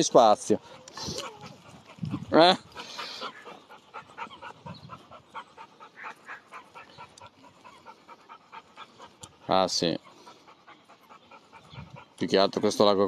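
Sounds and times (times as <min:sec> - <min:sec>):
dog panting softly: 0:00.0 - 0:13.0.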